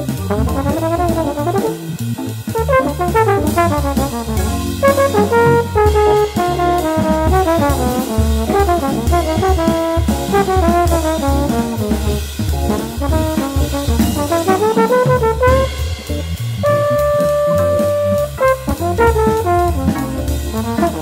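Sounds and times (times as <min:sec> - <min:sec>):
small jazz group playing: 0:00.0 - 0:21.0
trombone horn line: 0:00.0 - 0:21.0.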